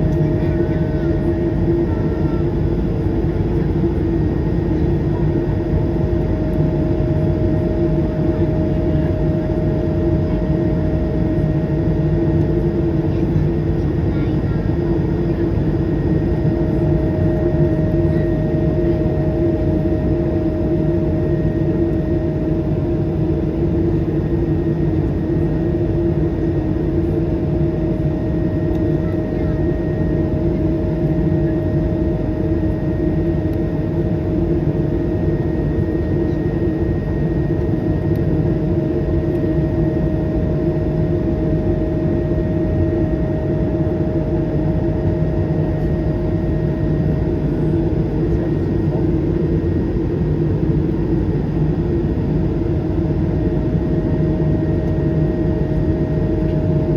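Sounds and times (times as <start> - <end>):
constant hum: 0.0 - 56.9
jet engine cabin drone: 0.0 - 56.9.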